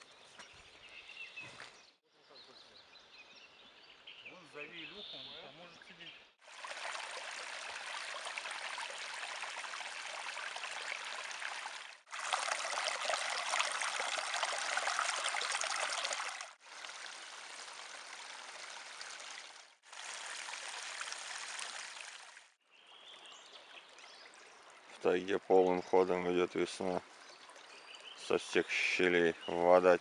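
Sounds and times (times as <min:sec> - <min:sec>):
brook water trickling: 0:00.0 - 0:02.0, 0:03.0 - 0:30.0.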